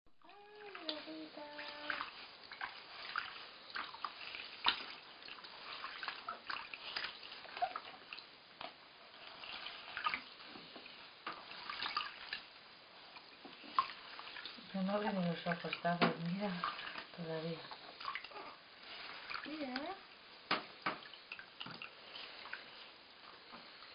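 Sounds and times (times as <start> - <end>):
bathwater splashing and dripping: 0.2 - 23.9.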